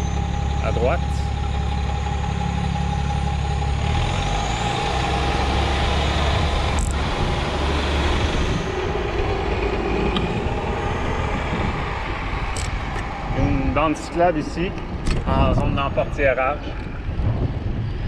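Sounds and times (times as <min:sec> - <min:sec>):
bus diesel engine running: 0:00.0 - 0:17.8.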